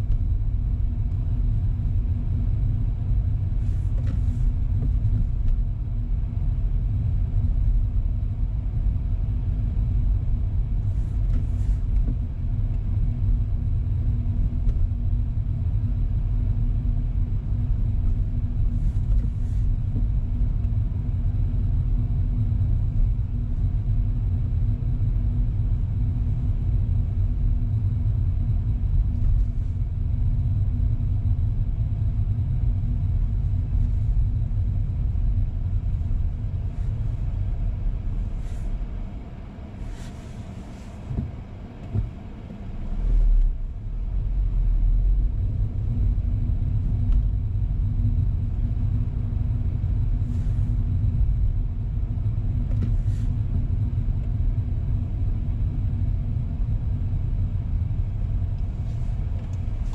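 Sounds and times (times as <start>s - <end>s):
car engine and tyre rumble: 0.0s - 59.9s
faint steady hum: 0.0s - 59.9s.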